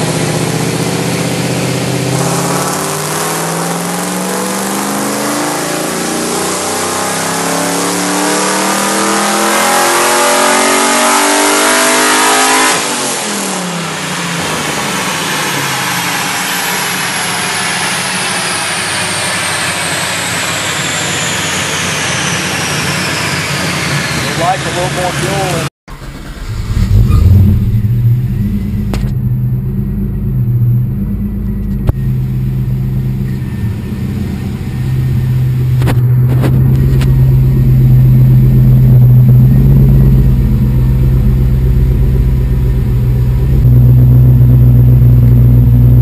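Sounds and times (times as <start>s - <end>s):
engine revving at full throttle: 0.0s - 25.7s, 29.8s - 46.0s
engine and wheels winding down: 0.0s - 46.0s.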